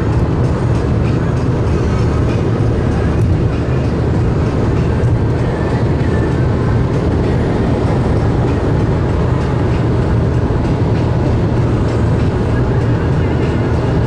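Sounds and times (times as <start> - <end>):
car engine low drone: 0.0 - 14.0
tyre and road noise: 0.0 - 14.0.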